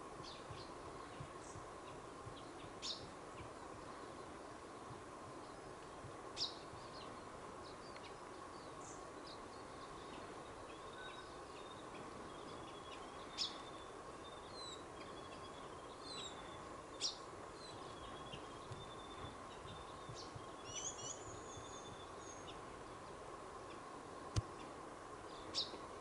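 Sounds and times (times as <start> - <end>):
background hiss: 0.0 - 26.0
small birds chirping: 0.0 - 26.0.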